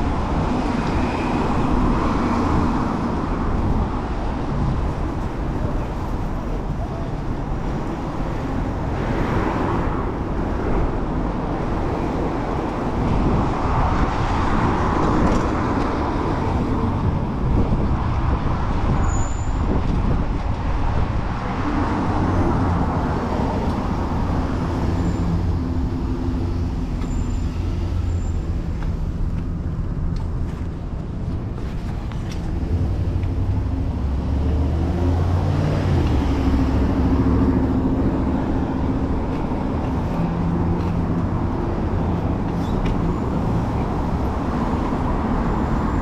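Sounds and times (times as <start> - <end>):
low traffic rumble: 0.0 - 46.0
vehicles passing close by: 0.0 - 46.0.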